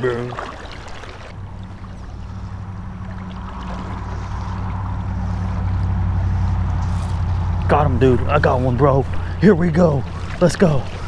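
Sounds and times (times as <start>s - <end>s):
low steady hum: 0.0s - 11.0s
river water running: 0.0s - 11.0s.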